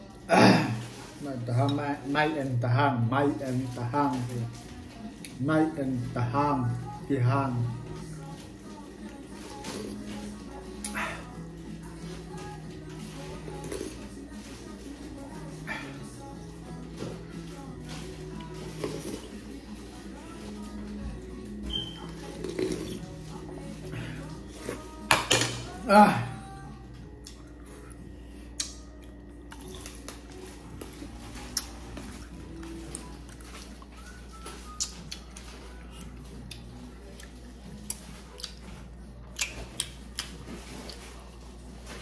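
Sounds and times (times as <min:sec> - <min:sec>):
soft background music: 0:00.0 - 0:42.0.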